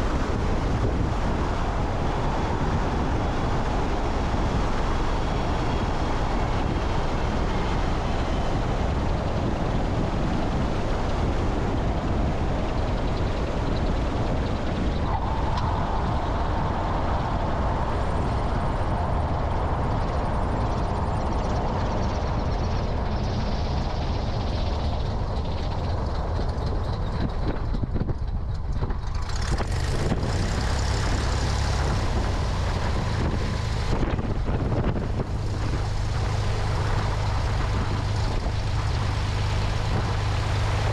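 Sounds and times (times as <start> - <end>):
higher engine note: 0.0 - 40.9
propeller engine running: 0.0 - 40.9
wind rushing over microphone: 0.0 - 40.9.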